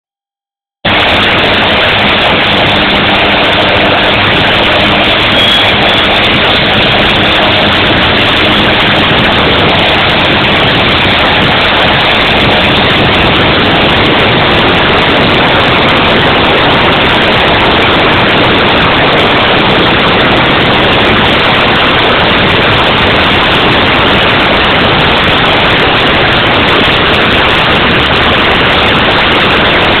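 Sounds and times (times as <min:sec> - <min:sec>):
propeller airplane engine running: 0:00.8 - 0:30.0.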